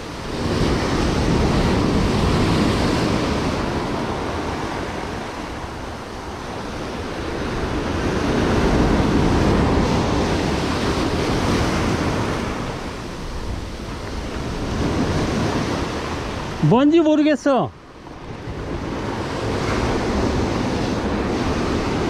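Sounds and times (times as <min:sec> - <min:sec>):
surf washing over rocks: 0:00.0 - 0:22.0.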